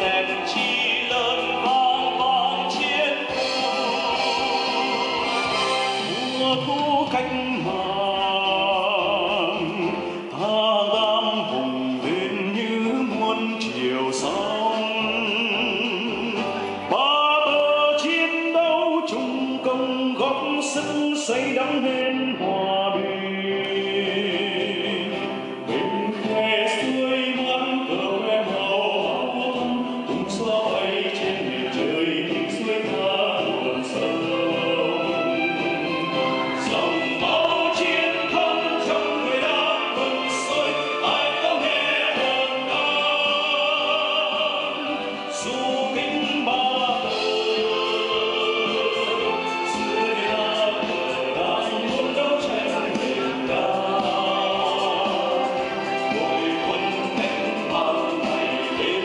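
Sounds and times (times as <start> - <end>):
instrumental accompaniment: 0.0 - 59.0
men singing into microphones: 0.0 - 59.0.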